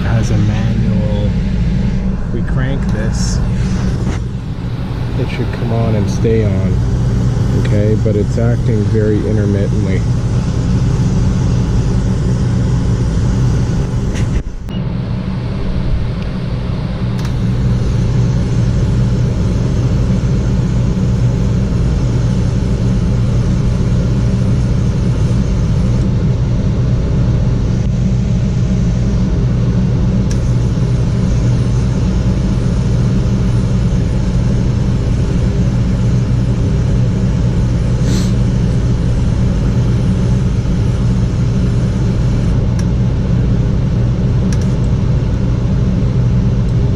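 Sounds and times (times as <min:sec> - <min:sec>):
gas furnace humming: 0:00.0 - 0:46.9.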